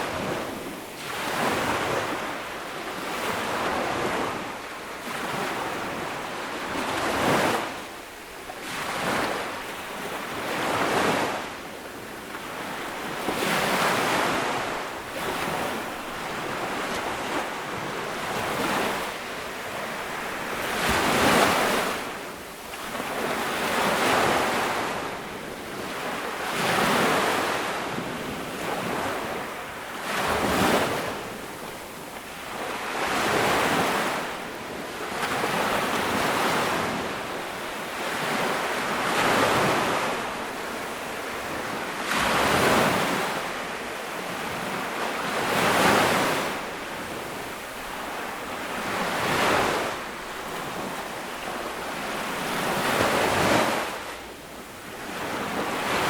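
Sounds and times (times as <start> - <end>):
waves washing up a beach: 0.0 - 56.0.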